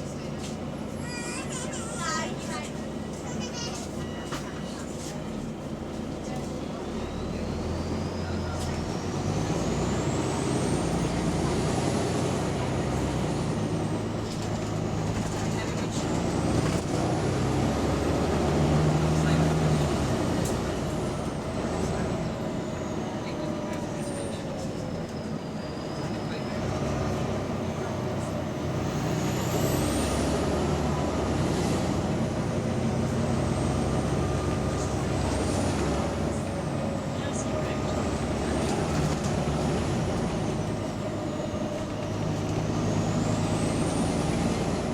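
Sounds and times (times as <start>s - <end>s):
bus diesel engine droning: 0.0s - 44.9s.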